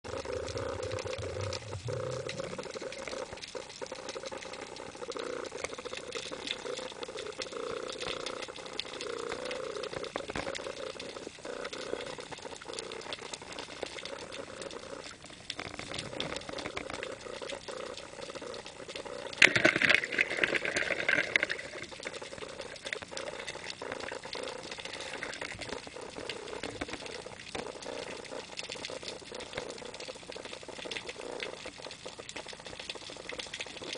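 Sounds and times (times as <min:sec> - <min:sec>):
underwater crackling and bubbling: 0:00.0 - 0:33.9.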